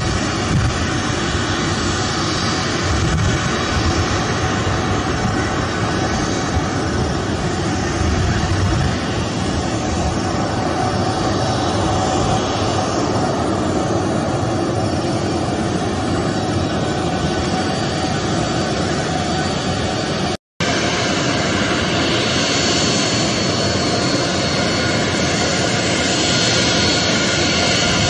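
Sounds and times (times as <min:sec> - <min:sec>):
jet engines at taxi power: 0:00.0 - 0:28.0.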